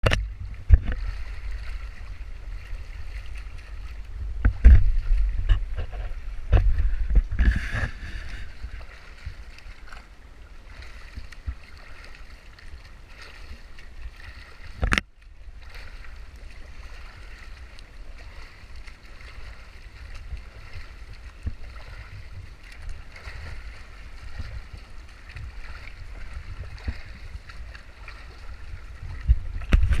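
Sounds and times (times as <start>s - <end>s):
swimmer splashing water: 0.0s - 30.0s
wind rumbling on microphone: 0.0s - 30.0s.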